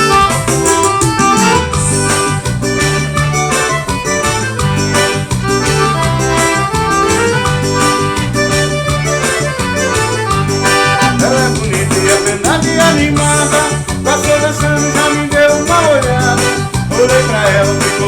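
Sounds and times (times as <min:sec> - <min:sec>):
accordion melody: 0:00.0 - 0:18.0
bass line: 0:00.0 - 0:18.0
steady percussion beat: 0:00.0 - 0:18.0.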